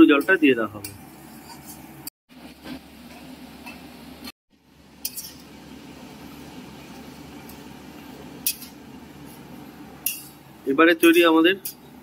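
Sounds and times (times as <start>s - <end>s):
low cooking background: 0.0s - 12.0s.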